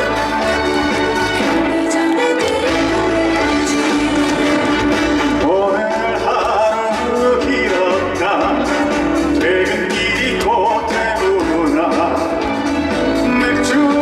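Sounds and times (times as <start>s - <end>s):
band playing through a pa: 0.0s - 14.0s
man singing: 2.4s - 14.0s.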